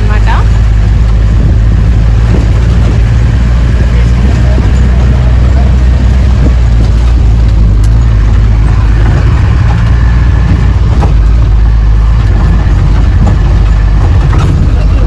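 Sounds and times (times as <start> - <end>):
car engine low rumble: 0.0 - 15.0
knocks from rough ride: 0.0 - 15.0.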